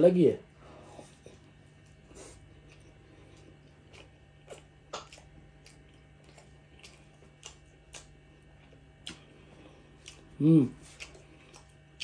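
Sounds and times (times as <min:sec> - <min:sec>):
faint low hum: 0:00.0 - 0:12.0
chewing crispy food crunch: 0:01.7 - 0:12.0.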